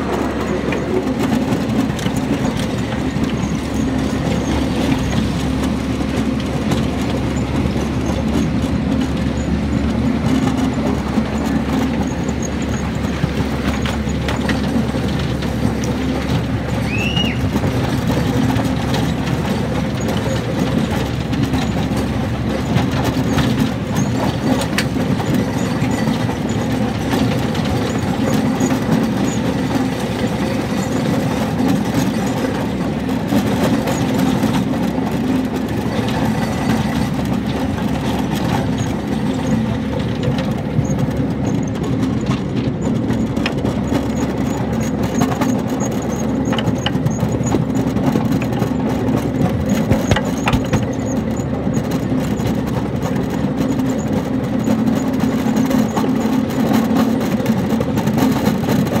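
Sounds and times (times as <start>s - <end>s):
ride-on train rolling on track: 0.0s - 59.0s.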